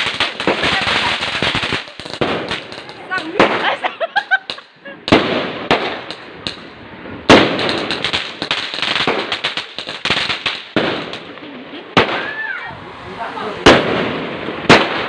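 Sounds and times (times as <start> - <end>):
firework bangs: 0.0 - 15.0
firework crackling: 0.0 - 15.0.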